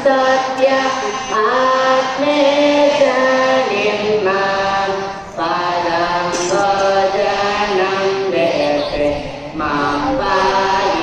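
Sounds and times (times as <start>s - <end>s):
group chanting a prayer: 0.0s - 11.0s.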